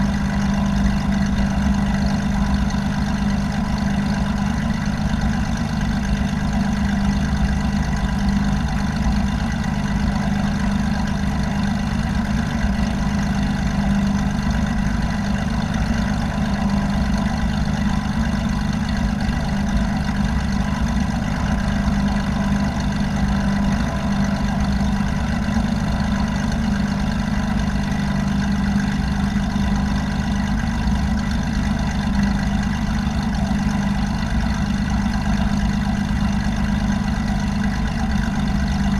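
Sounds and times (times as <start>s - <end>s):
propeller aircraft engine droning: 0.0s - 38.9s.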